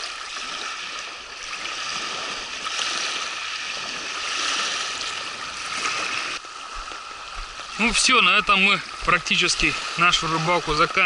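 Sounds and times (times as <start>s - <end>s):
waves lapping against shore: 0.0s - 11.0s.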